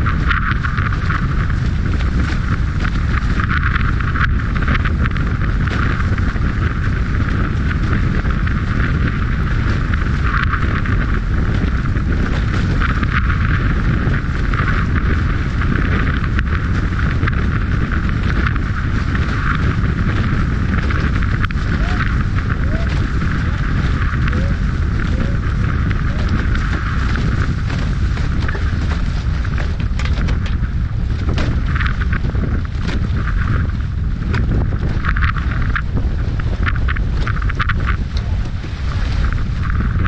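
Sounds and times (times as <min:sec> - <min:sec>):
water rushing past hulls: 0:00.0 - 0:40.0
wind buffeting microphone: 0:00.0 - 0:40.0.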